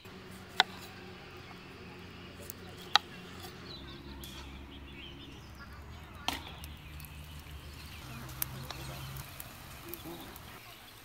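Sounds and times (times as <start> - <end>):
low steady hum: 0.0 - 11.0
tomatoes frying with sizzle: 0.0 - 11.0.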